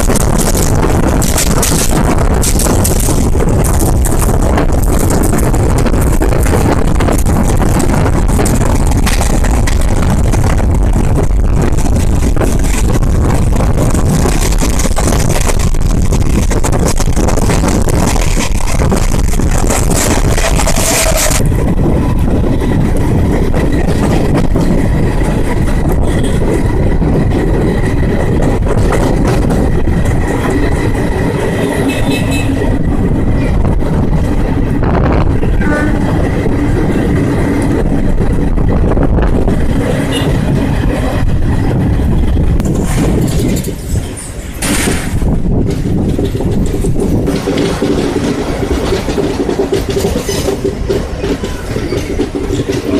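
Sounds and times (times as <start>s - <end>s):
rushing air hiss and rail noise: 0.0s - 52.9s
train wheels rumbling on track: 0.0s - 52.9s.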